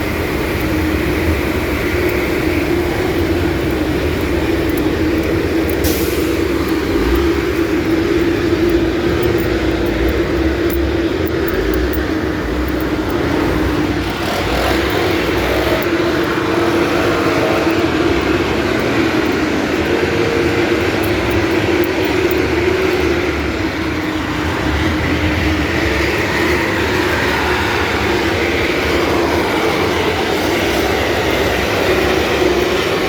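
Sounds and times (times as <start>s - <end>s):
milling machine grinding road: 0.0s - 33.0s.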